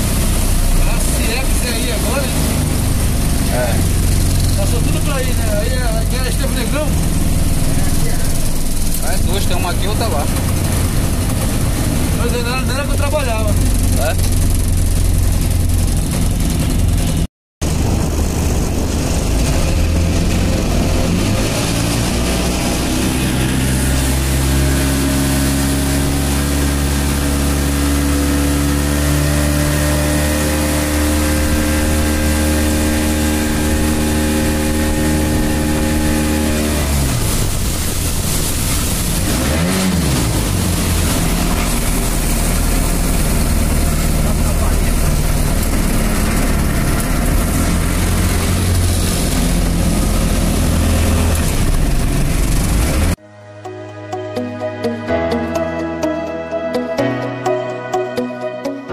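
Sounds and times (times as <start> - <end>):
boat engine running: 0.0 - 53.2
water rushing along hull: 0.0 - 53.2.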